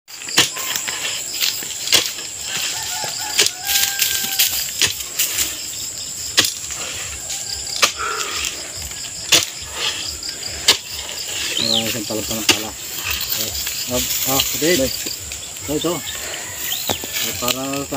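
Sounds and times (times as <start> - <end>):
insects chirring: 0.1 - 17.9.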